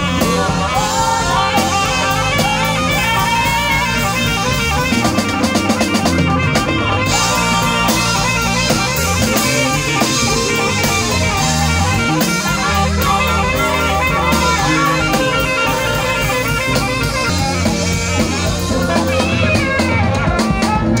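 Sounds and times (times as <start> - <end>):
bass line: 0.0 - 21.0
drum kit: 0.0 - 21.0
keyboard: 0.0 - 21.0
saxophone lead melody: 0.0 - 21.0.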